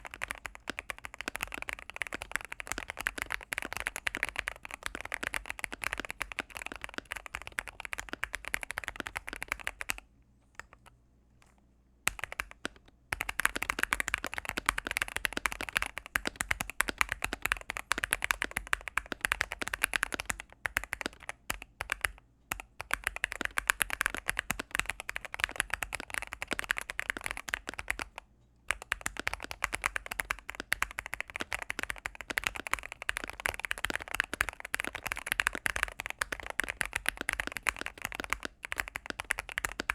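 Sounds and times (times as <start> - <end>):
fast typing on mechanical keyboard: 0.0 - 10.0, 12.1 - 39.9.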